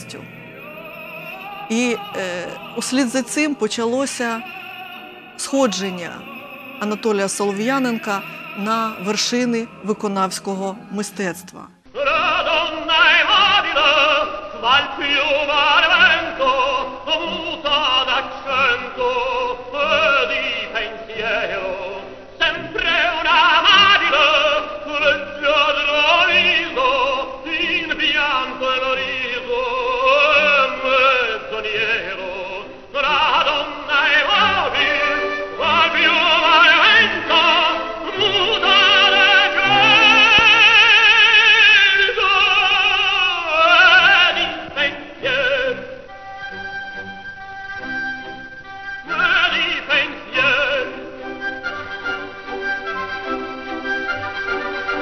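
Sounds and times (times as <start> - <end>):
operatic tenor singing: 0.0 - 55.0.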